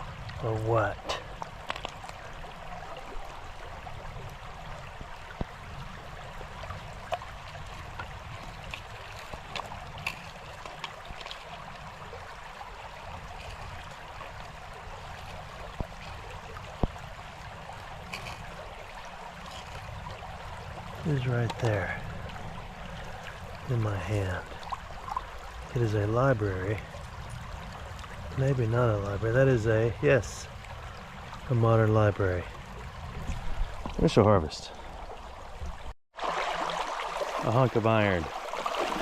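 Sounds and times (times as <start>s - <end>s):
creek water trickling: 0.0s - 39.0s.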